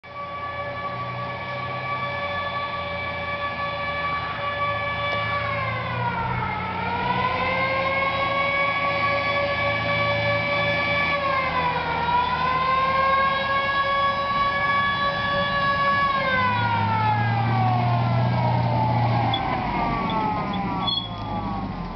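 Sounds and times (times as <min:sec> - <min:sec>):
fire truck siren: 0:00.0 - 0:21.9
truck engine rumble: 0:00.0 - 0:21.9.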